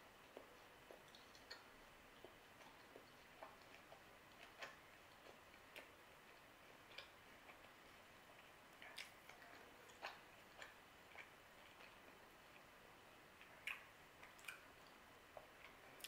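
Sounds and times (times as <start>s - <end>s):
quiet chewing clicks: 0.0s - 16.0s.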